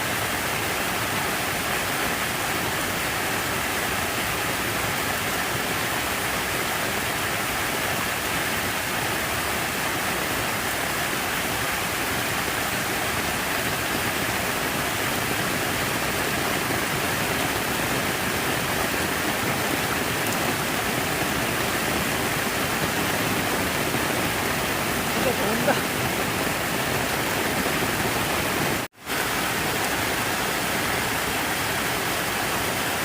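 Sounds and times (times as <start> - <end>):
rush of falling water: 0.0 - 33.0.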